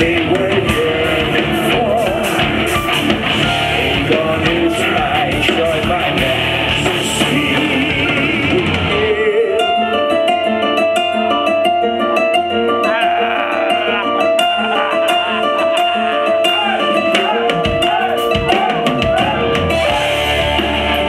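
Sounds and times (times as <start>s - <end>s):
heavy metal band playing live: 0.0s - 9.4s, 12.7s - 21.0s.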